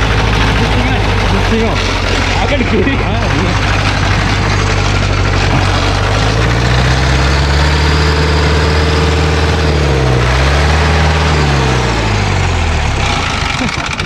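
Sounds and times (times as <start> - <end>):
jeep engine running loudly: 0.0 - 14.0.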